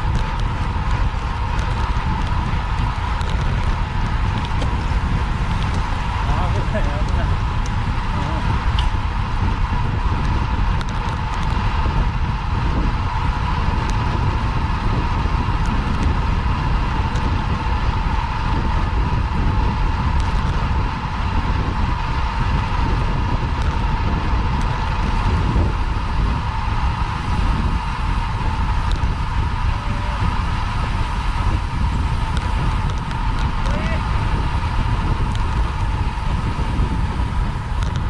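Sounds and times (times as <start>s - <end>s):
bicycle tyre road noise: 0.0s - 38.0s
constant hum: 0.0s - 38.0s
wind buffeting microphone: 0.0s - 38.0s.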